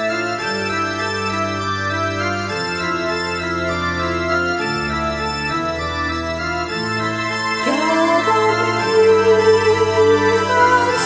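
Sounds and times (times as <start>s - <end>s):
organ-like keyboard chords: 0.0s - 11.0s.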